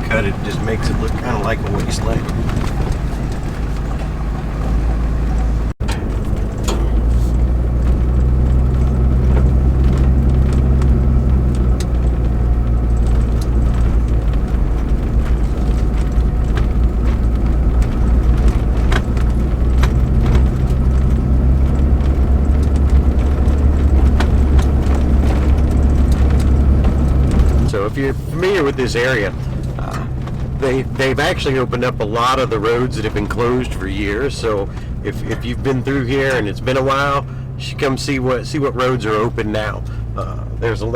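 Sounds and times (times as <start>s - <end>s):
rattles and ticks: 0.0s - 40.9s
vehicle engine and road rumble: 0.0s - 40.9s.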